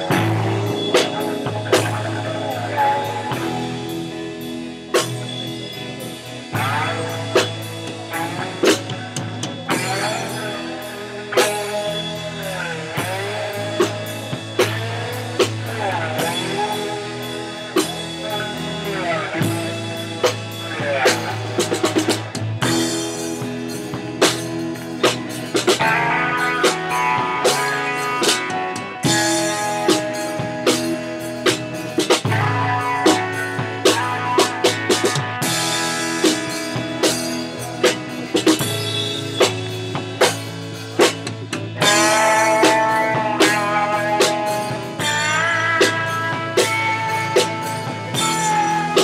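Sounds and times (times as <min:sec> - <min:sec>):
drum kit beat: 0:00.0 - 0:49.0
guitar: 0:00.0 - 0:49.0
rock band playing: 0:00.0 - 0:49.0.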